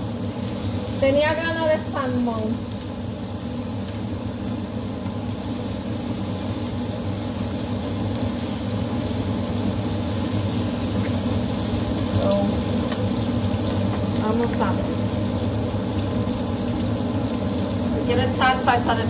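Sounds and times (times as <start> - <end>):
constant low hum: 0.0 - 19.0
food frying in a pan: 0.0 - 19.0.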